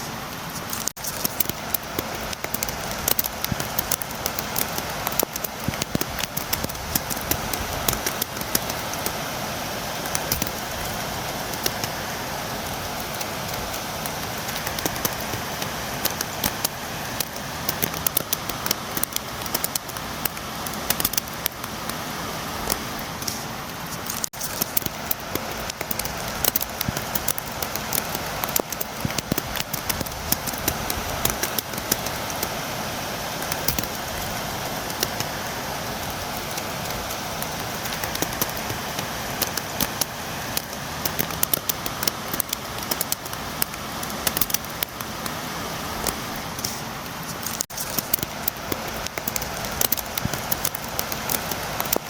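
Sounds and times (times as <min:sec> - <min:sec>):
rain beating on a window: 0:00.0 - 0:52.0.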